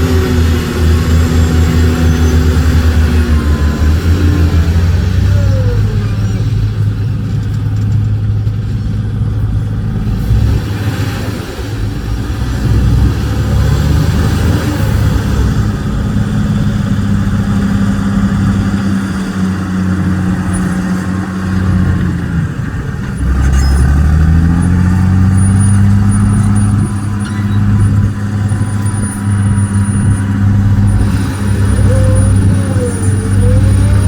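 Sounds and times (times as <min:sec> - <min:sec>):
dump truck diesel engine: 0:00.0 - 0:34.0.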